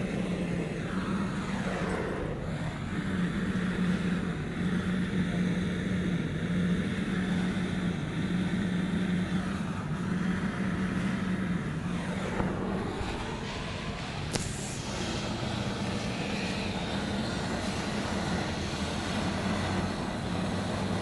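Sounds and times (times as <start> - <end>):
low hum: 0.0 - 21.0
rushing mechanical noise: 0.0 - 21.0.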